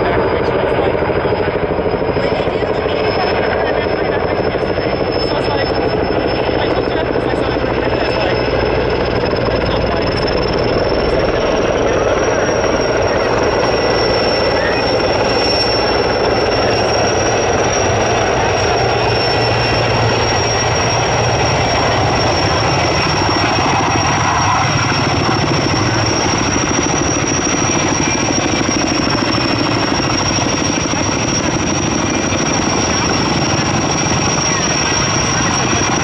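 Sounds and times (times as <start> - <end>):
helicopter rotor beating: 0.0 - 36.0
helicopter turbines whining: 0.0 - 36.0.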